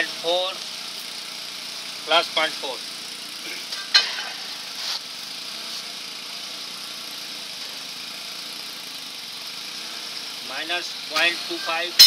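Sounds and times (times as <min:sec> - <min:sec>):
machine idling: 0:00.0 - 0:12.0.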